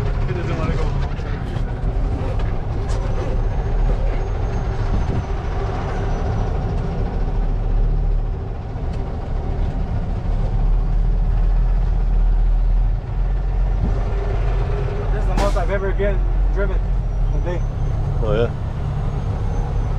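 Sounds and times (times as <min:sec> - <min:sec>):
diesel engine from inside cab: 0:00.0 - 0:19.9.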